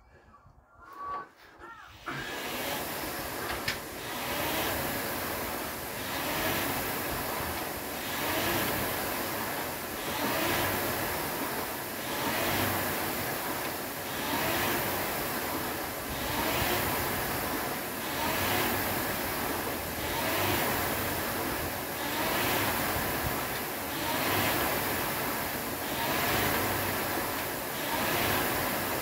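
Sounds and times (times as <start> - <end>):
rowing machine fan whooshing: 0.7 - 29.0.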